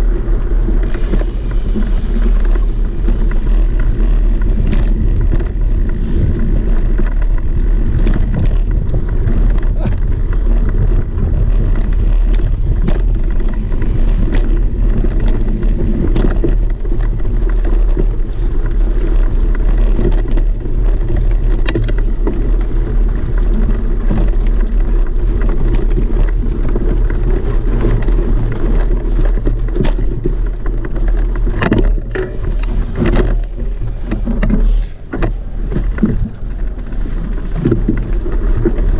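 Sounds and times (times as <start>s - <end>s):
vehicle engine rumbling: 0.0s - 38.9s
knocks and rattles: 0.7s - 38.9s.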